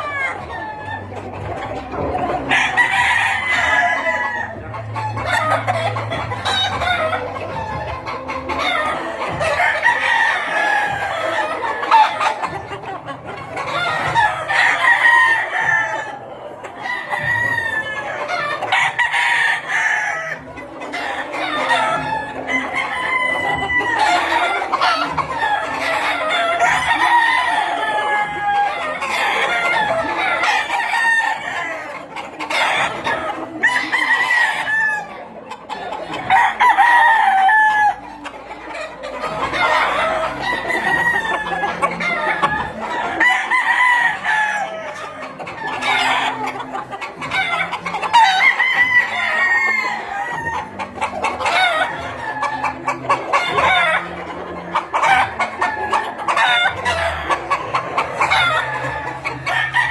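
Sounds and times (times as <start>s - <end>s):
roosters crowing: 0.0s - 59.9s.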